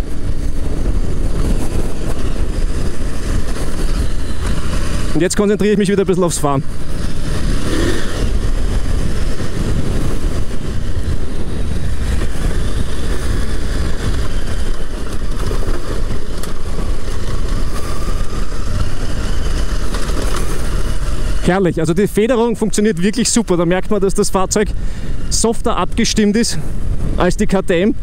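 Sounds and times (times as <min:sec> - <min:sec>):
motorcycle engine running: 0:00.0 - 0:26.1
wind rumble on microphone: 0:00.0 - 0:28.0.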